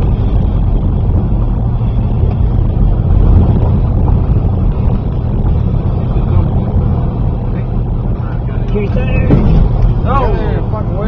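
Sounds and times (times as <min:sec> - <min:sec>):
engine and tyres on gravel rumbling: 0:00.0 - 0:11.0.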